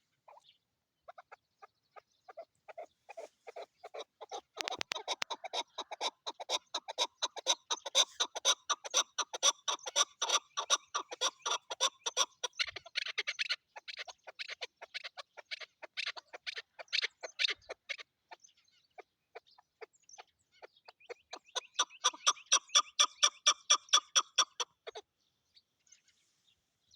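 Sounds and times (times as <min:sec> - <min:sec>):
partridge clucking calls: 0:00.0 - 0:25.1.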